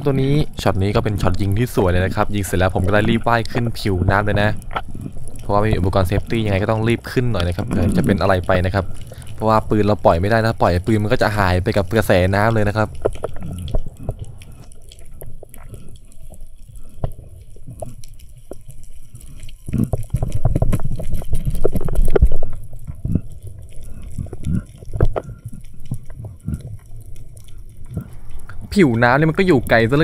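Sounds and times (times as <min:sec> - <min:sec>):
underwater rumble and slosh: 0:00.0 - 0:30.0.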